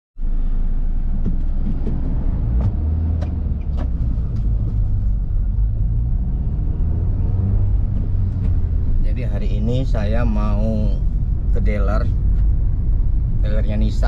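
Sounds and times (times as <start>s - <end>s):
car engine rumbling: 0.2s - 14.0s.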